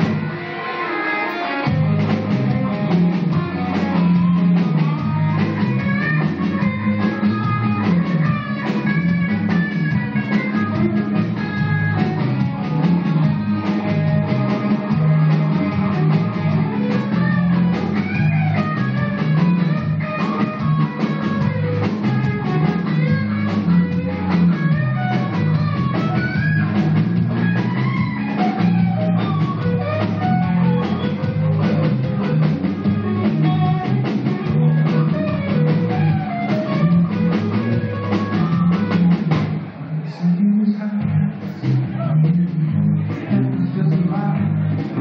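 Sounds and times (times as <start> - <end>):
drum kit: 0.0 - 40.2, 41.0 - 45.0
bass guitar: 0.0 - 45.0
electric guitars: 0.0 - 45.0.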